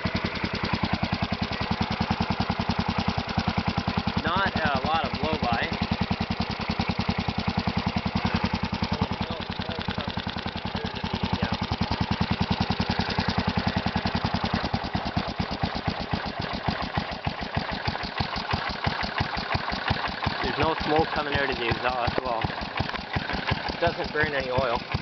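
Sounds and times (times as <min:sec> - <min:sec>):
single-cylinder engine running: 0:00.0 - 0:25.0.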